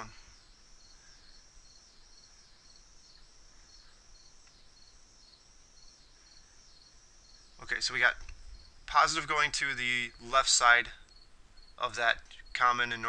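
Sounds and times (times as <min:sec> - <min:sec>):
faint high-pitched chirp: 0:00.0 - 0:13.0.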